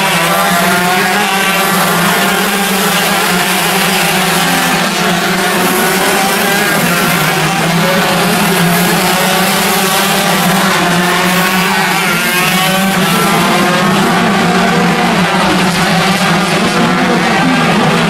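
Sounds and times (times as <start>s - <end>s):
kart engines racing: 0.0s - 18.0s.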